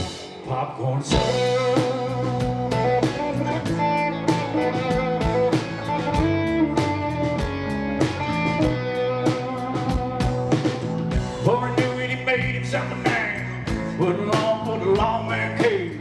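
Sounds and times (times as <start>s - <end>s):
steady drumbeat: 0.0s - 0.5s, 1.1s - 16.0s
live band playing: 0.0s - 16.0s
plucked guitar lead: 1.1s - 15.5s.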